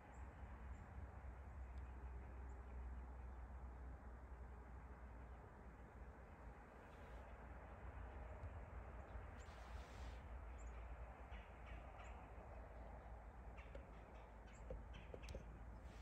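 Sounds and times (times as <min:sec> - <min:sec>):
low steady rumble and hiss: 0:00.0 - 0:16.0.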